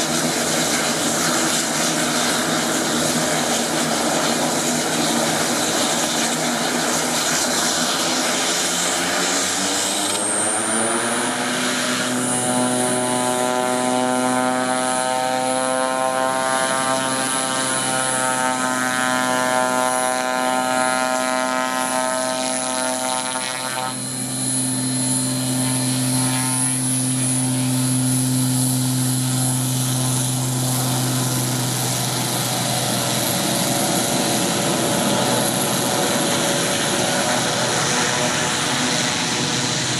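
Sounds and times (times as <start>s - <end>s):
propeller drone: 0.0s - 39.9s
turbine whine: 0.0s - 39.9s.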